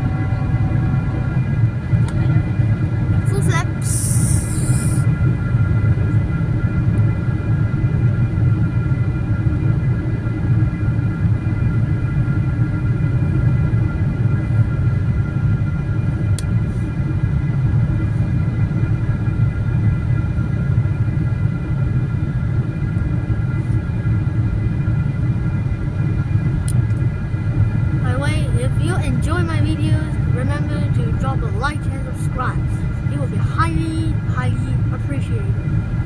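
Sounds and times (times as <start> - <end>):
airplane cabin engine rumble: 0.0 - 36.0
faint whining tones: 0.0 - 36.0.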